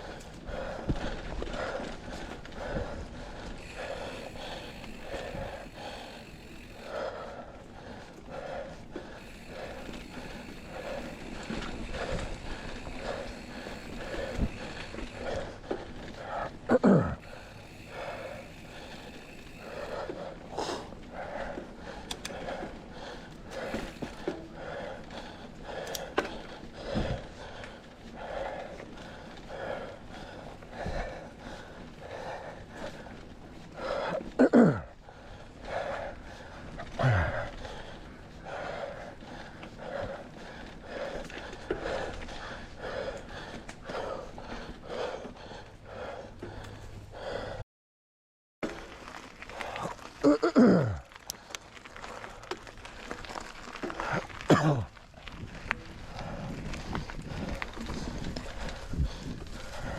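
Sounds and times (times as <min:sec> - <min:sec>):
heavy rhythmic breathing: 0:00.0 - 0:47.6, 0:48.6 - 0:59.9.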